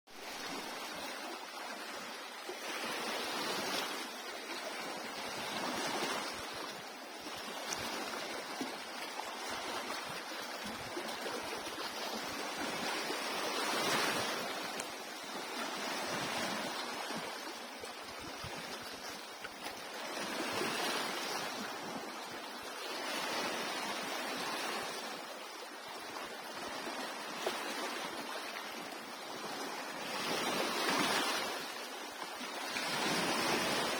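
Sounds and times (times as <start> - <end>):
surf breaking on a beach: 0.1 - 33.9.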